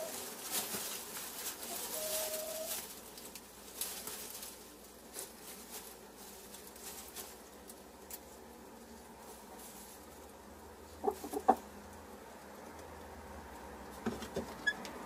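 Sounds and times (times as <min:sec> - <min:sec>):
straw rustling: 0:00.0 - 0:15.0.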